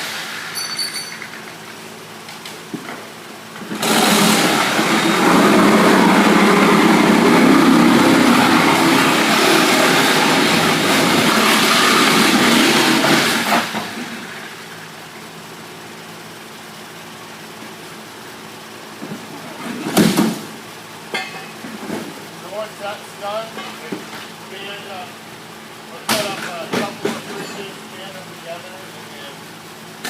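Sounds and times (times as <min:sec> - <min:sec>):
loud engine noise: 0:00.0 - 0:30.0.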